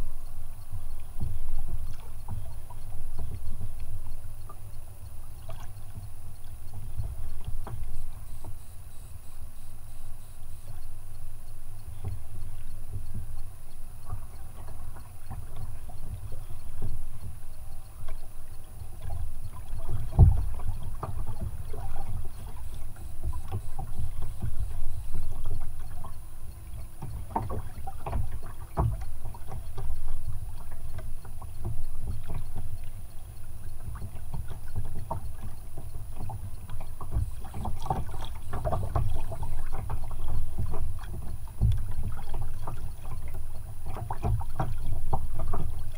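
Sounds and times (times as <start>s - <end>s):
water lapping against kayak hull: 0.0s - 45.9s.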